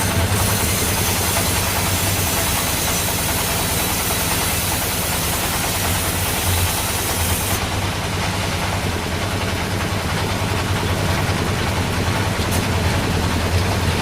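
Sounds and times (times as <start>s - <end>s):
sawmill machinery drone: 0.0s - 14.0s.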